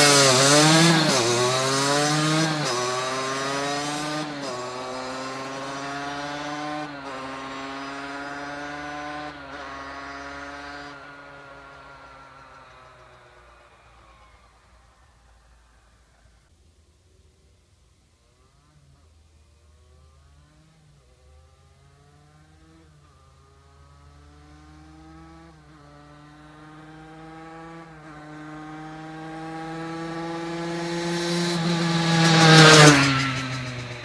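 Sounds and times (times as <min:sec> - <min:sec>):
two-stroke motorcycle accelerating: 0:00.0 - 0:16.4, 0:18.3 - 0:34.0.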